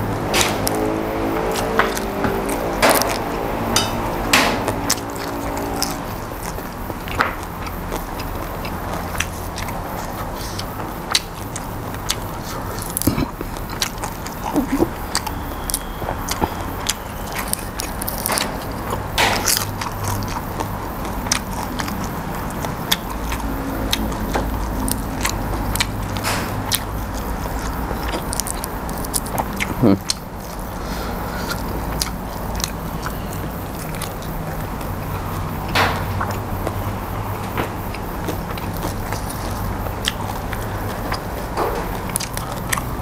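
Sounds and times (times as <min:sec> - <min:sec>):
chewing and crunching food: 0:00.0 - 0:43.0.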